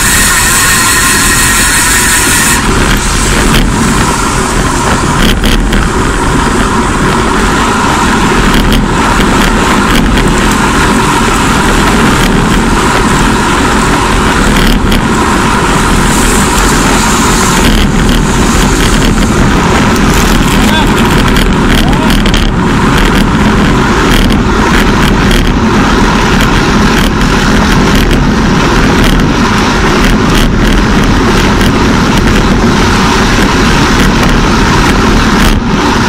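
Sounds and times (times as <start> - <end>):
tyre noise on road: 0.0 - 36.0
wind rushing on microphone: 0.0 - 36.0.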